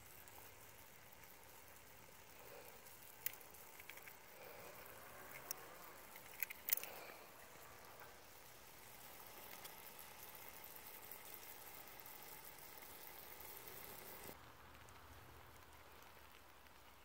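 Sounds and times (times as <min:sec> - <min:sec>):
vegetables and meat sizzling in pot: 0:00.0 - 0:17.0.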